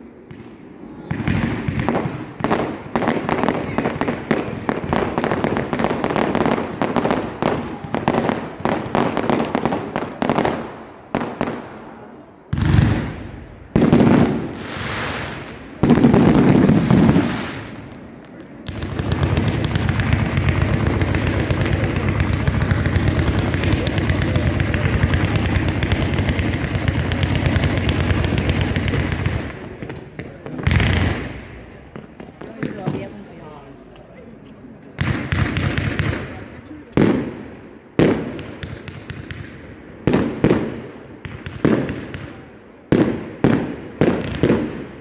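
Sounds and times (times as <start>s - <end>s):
heavy fireworks booms rumbling: 0.0s - 33.9s, 34.6s - 45.0s
fireworks crackling bangs: 0.0s - 34.0s, 34.8s - 45.0s
dense fireworks crackle: 0.0s - 45.0s.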